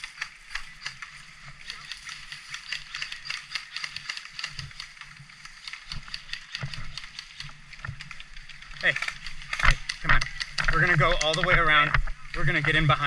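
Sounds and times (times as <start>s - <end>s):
footsteps crunching on field: 0.0s - 13.0s.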